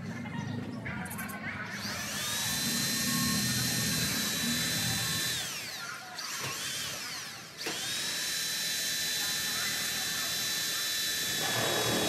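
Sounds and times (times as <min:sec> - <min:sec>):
cordless drill motor whine: 0:01.7 - 0:12.0.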